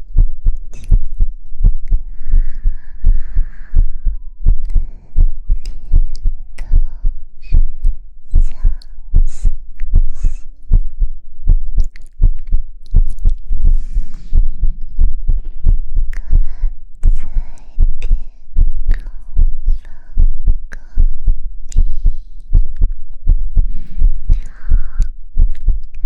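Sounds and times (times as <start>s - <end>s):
soft deep rhythmic thumping: 0.0s - 26.0s.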